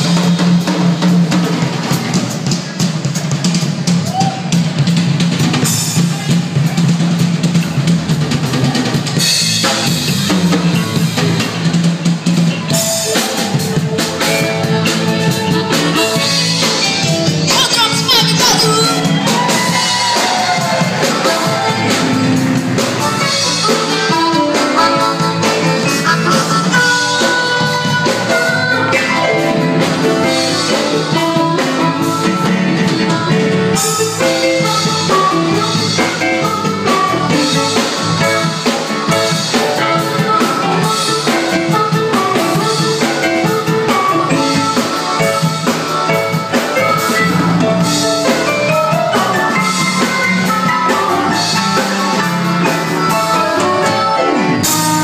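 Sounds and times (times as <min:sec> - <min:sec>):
lead melody with bent notes: 0:00.0 - 0:55.0
live band playing: 0:00.0 - 0:55.0.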